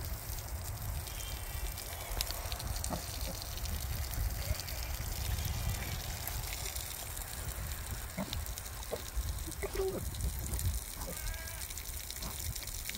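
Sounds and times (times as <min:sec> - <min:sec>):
pigs chewing and smacking: 0:00.1 - 0:12.9.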